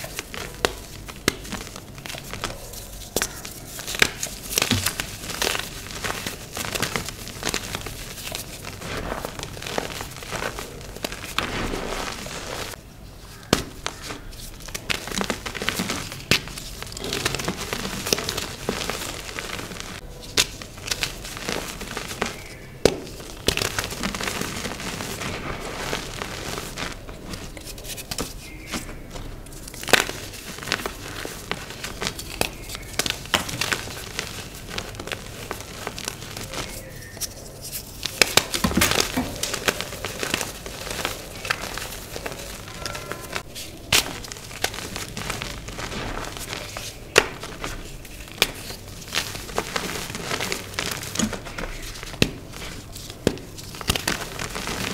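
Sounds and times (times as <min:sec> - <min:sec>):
chalk crunching and snapping: 0:00.0 - 0:54.9.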